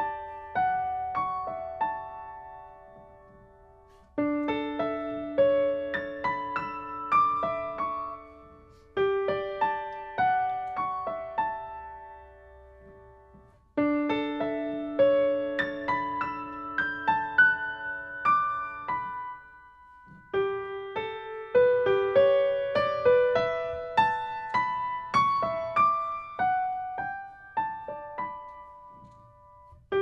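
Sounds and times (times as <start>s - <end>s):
slow solo piano music: 0.0s - 30.0s.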